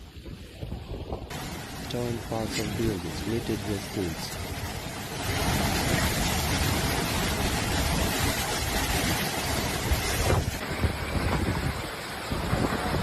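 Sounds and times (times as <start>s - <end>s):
wind blowing on microphone: 0.0s - 13.0s.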